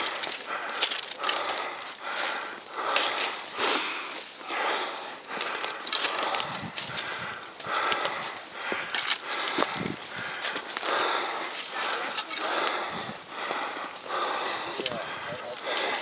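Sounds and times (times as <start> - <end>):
footsteps on leafy slope: 0.0 - 16.0
person breathing: 0.0 - 16.0.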